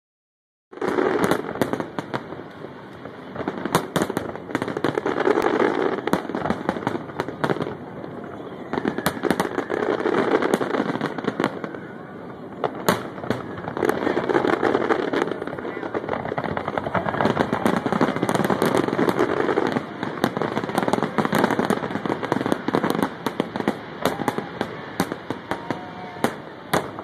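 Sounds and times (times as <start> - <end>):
fireworks crackling: 0.8 - 27.0.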